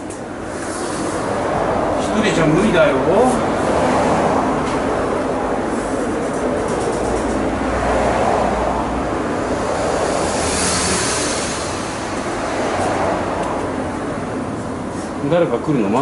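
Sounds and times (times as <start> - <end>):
rushing wind-like noise: 0.0 - 16.0.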